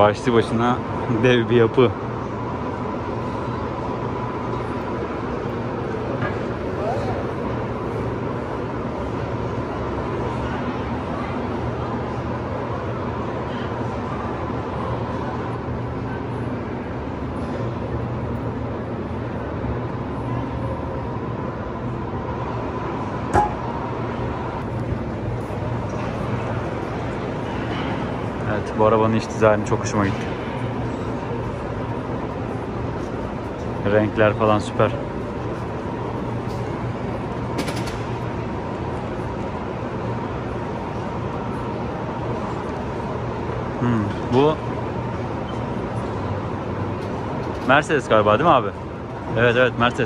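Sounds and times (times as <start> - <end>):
constant low hum: 0.0 - 50.0.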